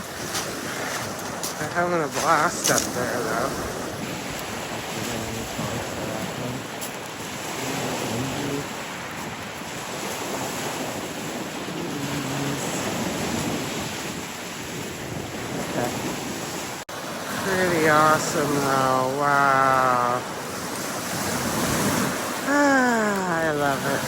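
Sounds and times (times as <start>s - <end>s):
waves washing onto beach: 0.0s - 24.0s
wind on microphone: 0.0s - 24.0s.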